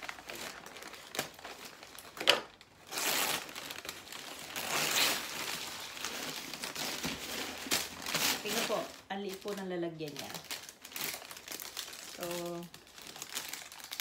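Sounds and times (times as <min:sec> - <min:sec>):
packaging crumpling and rustling: 0:00.0 - 0:14.0.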